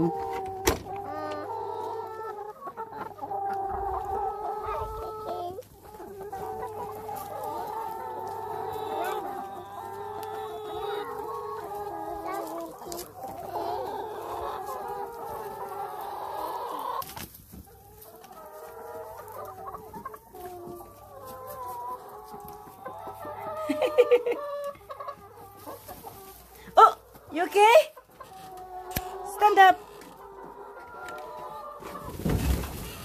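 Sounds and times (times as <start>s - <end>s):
hens clucking: 0.0s - 33.0s.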